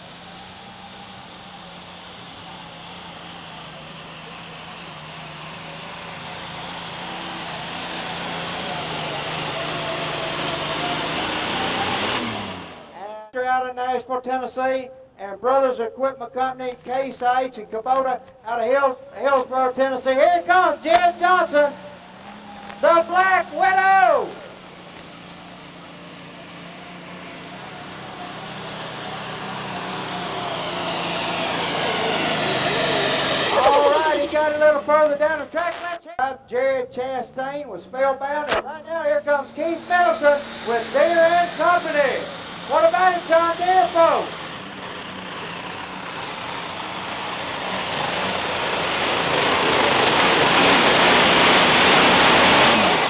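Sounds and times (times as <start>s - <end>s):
tractor engine running flat out: 0.0s - 13.3s, 18.7s - 36.1s, 37.8s - 53.0s.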